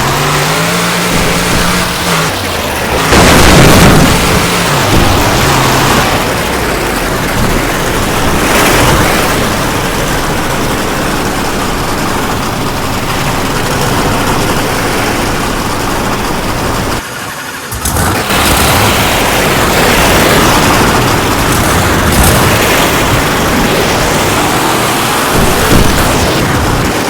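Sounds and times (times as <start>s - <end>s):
monster truck engine running: 0.0s - 27.0s.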